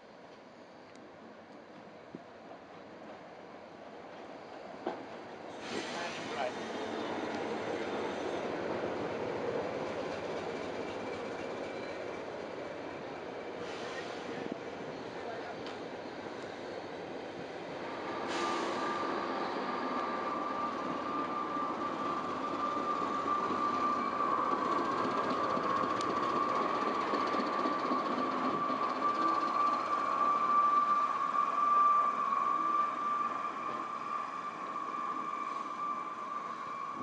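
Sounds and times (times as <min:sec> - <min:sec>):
locomotive diesel engines: 0:04.0 - 0:37.0.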